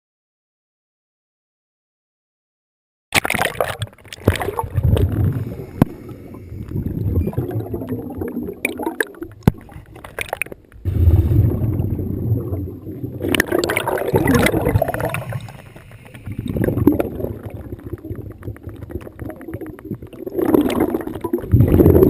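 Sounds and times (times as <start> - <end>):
underwater bubbles gurgling: 3.2 - 22.0.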